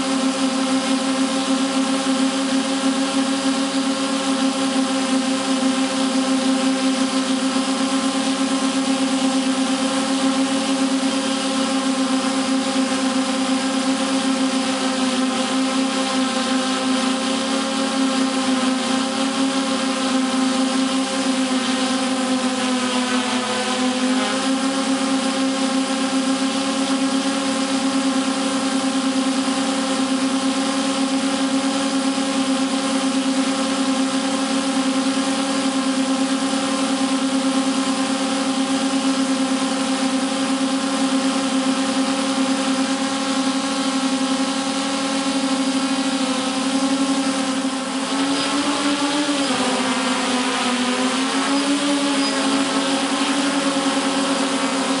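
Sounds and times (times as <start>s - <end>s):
drone buzzing hum: 0.0s - 55.0s.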